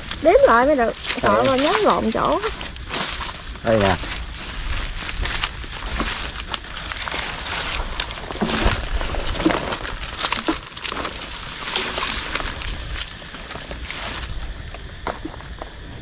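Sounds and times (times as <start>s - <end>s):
water sloshing and splashing: 0.8s - 15.4s
knocks and rustles: 1.1s - 14.4s.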